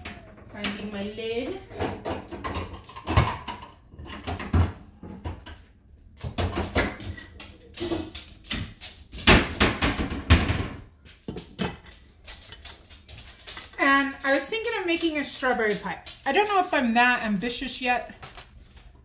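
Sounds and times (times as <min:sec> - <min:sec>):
cupboard doors and cookware clanking: 0:00.0 - 0:16.2.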